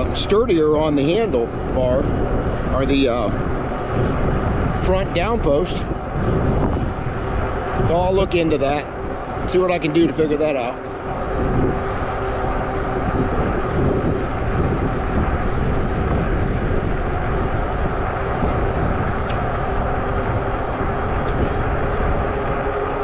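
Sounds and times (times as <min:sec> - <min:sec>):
wind and road rumble: 0:00.0 - 0:23.0.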